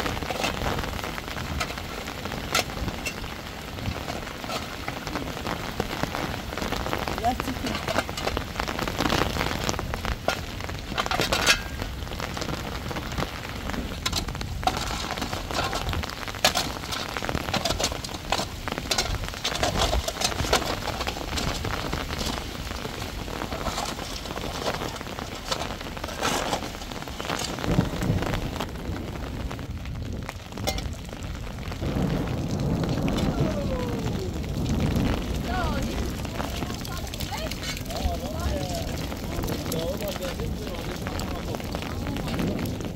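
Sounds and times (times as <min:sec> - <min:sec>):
heavy rain falling: 0:00.0 - 0:42.9
sharp crackles and taps: 0:00.0 - 0:42.9.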